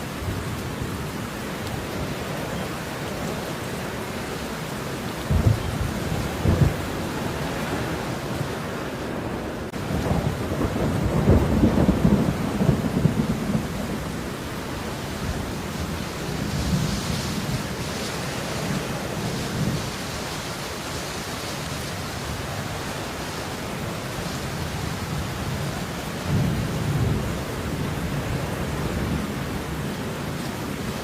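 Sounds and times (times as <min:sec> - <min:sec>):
steady falling rain: 0:00.0 - 0:31.0.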